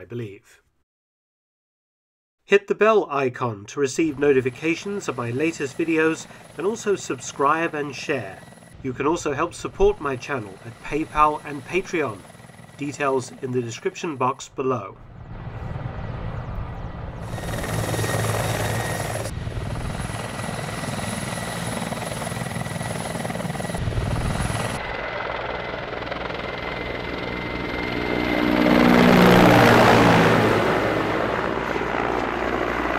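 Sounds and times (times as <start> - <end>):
helicopter passing close: 4.0 - 32.9
helicopter rotor and turbine whine: 4.0 - 32.9.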